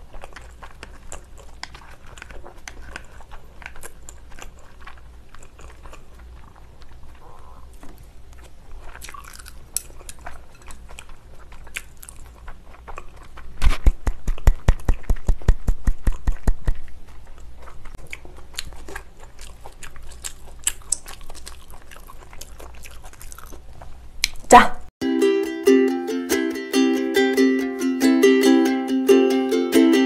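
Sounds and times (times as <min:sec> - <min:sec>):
wet chewing smacks: 0:00.0 - 0:24.4.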